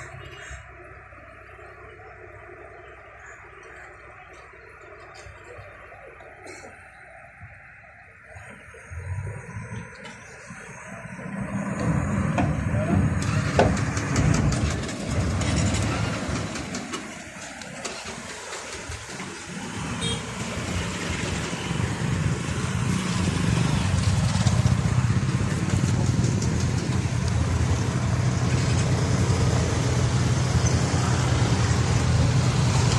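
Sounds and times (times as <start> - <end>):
engine hum: 0.0 - 32.9.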